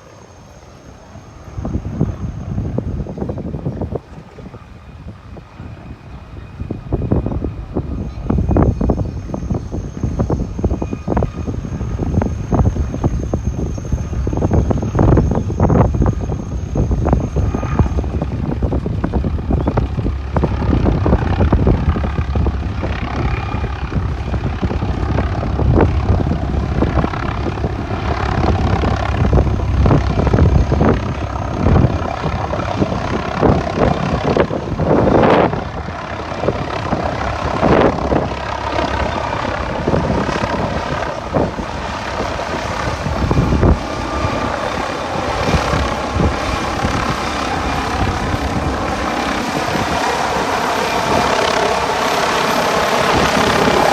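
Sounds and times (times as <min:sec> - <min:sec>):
helicopter rotor and turbine engine: 0:00.0 - 0:53.9
wind buffeting microphone: 0:00.8 - 0:53.9.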